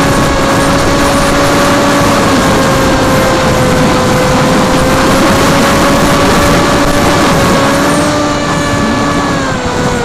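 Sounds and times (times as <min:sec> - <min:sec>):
drone motors whining: 0:00.0 - 0:10.0
rushing air noise: 0:00.0 - 0:10.0.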